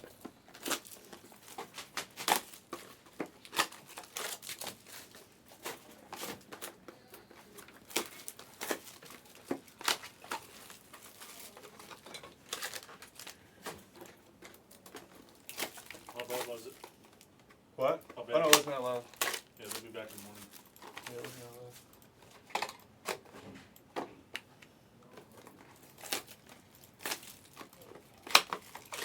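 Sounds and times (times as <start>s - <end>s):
plastic wrapping crinkling and tearing: 0.0s - 23.2s, 25.1s - 29.0s.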